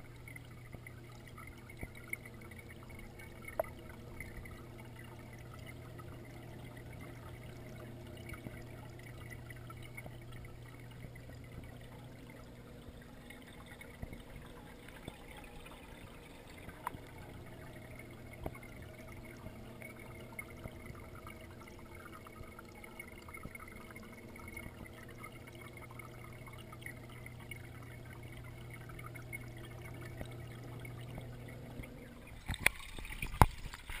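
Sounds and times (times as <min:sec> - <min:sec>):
steady low hum: 0:00.0 - 0:34.0
underwater water trickle: 0:00.0 - 0:34.0.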